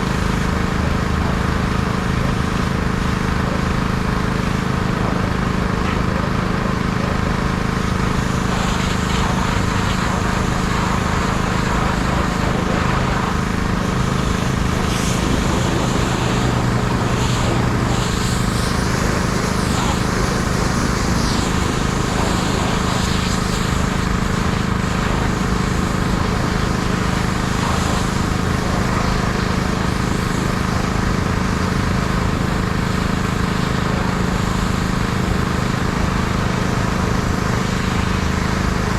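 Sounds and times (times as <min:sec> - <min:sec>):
high-pressure water jet hissing: 0:00.0 - 0:38.9
pressure washer engine running: 0:00.0 - 0:38.9.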